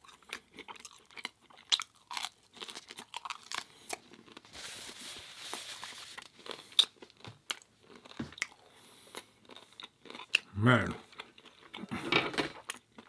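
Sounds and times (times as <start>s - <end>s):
chewing pizza: 0.0s - 4.5s, 6.2s - 13.0s.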